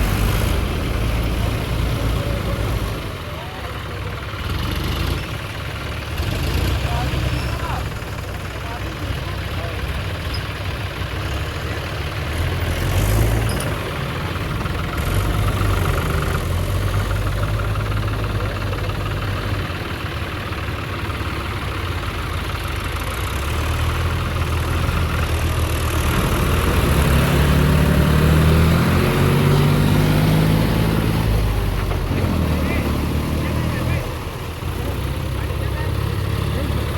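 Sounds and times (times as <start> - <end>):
tractor diesel engine revving: 0.0 - 36.9.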